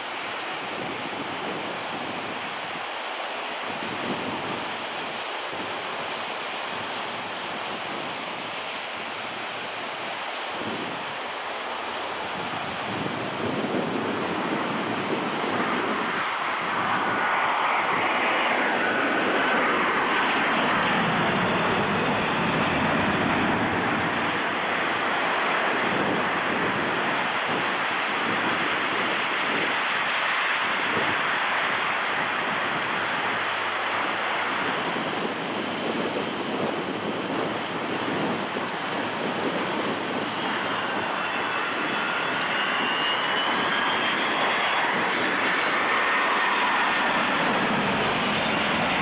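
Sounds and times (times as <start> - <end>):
jet airliner passing: 0.0 - 49.0
jet engine whine falling in pitch: 0.2 - 49.0.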